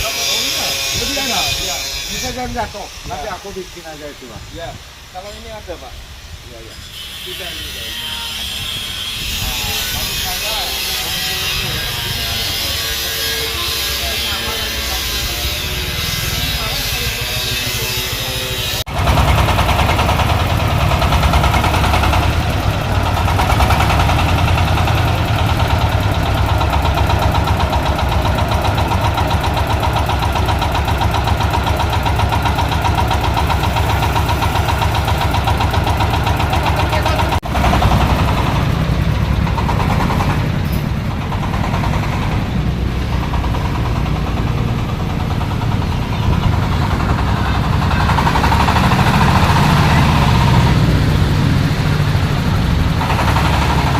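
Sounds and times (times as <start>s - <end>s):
diesel engine running: 9.4s - 53.9s.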